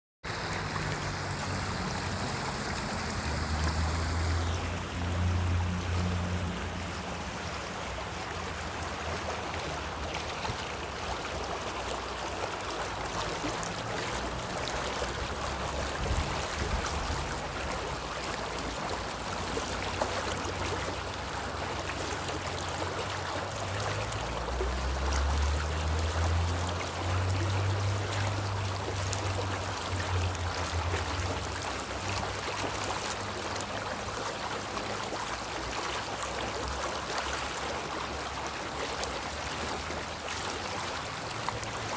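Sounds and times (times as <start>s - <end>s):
stream water rushing: 0.2s - 41.9s.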